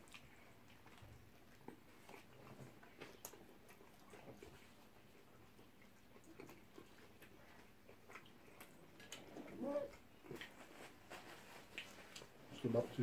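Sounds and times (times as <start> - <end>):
soft chewing and mouth clicks: 0.0 - 13.0.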